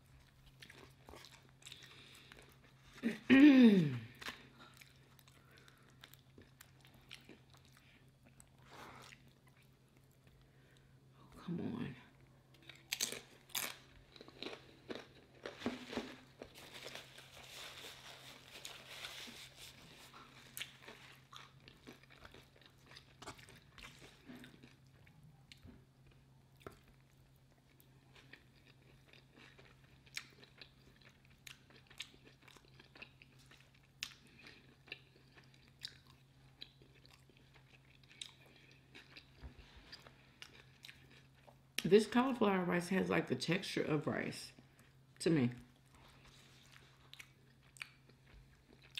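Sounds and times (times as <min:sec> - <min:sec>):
person chewing food: 0:00.0 - 0:03.3, 0:03.9 - 0:11.1, 0:12.2 - 0:41.8, 0:45.7 - 0:48.9
faint low hum: 0:00.0 - 0:48.9.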